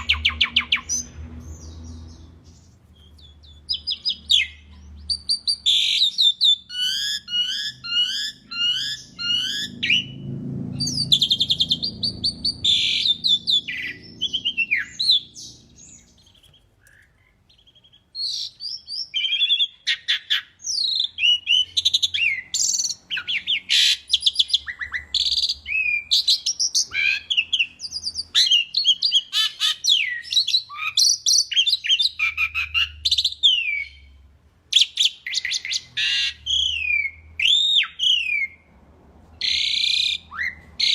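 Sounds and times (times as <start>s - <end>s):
starling singing: 0.0s - 10.2s, 10.8s - 34.1s.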